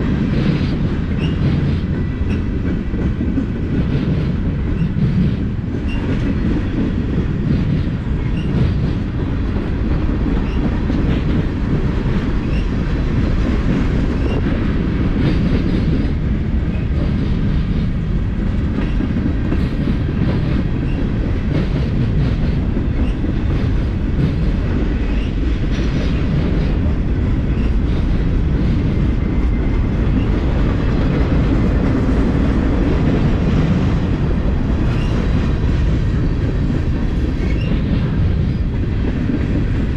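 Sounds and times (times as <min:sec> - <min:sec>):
freight train rumbling past: 0:00.0 - 0:39.9
train wheels clicking on rails: 0:00.0 - 0:39.9.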